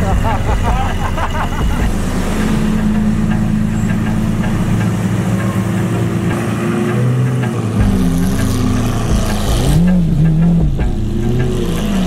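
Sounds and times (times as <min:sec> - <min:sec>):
car engines idling: 0:00.0 - 0:12.0.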